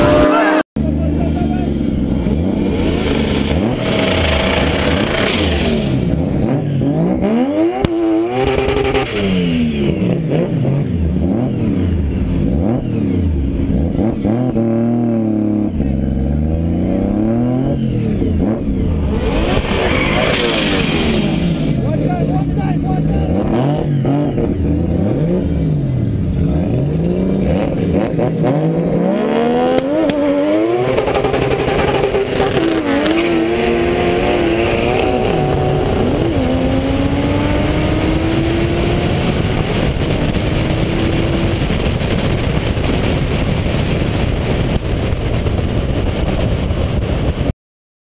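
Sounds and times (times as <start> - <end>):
racing car engine revving: 0.0 - 44.8
wind and road noise: 0.0 - 47.5.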